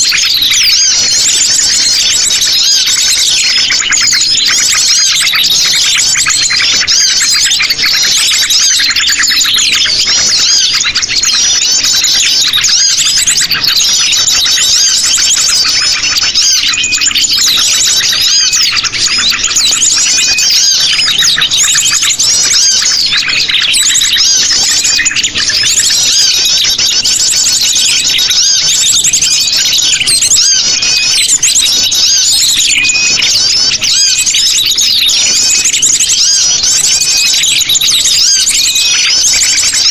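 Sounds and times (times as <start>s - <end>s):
sunbirds chirping: 0.0s - 39.9s.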